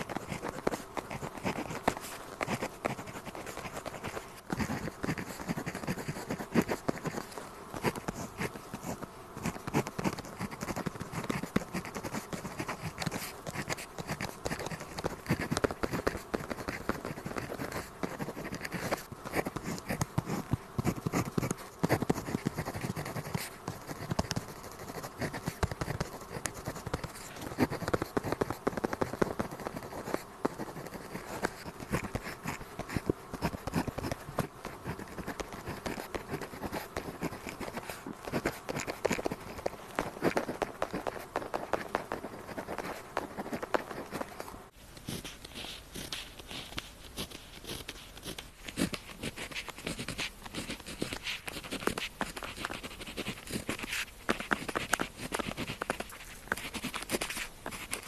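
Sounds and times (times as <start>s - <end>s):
pen scratching on paper: 0.0s - 58.0s.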